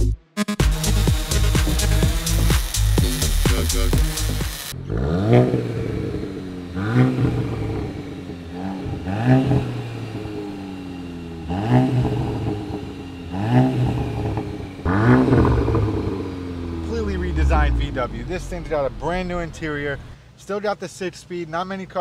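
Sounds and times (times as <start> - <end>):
car engine revving: 0.6 - 20.2.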